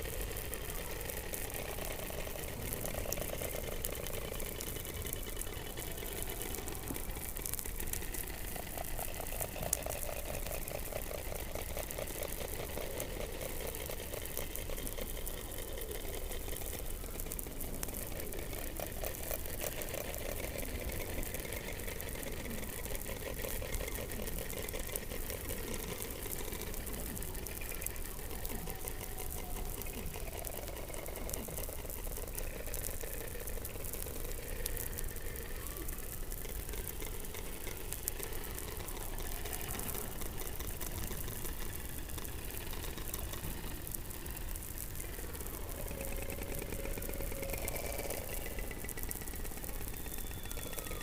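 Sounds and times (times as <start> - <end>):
crackling clicks: 0.0 - 51.0.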